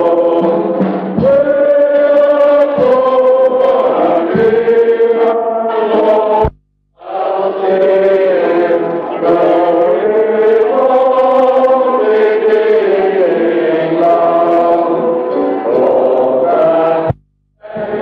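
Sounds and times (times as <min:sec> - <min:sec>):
men singing together: 0:00.0 - 0:18.0.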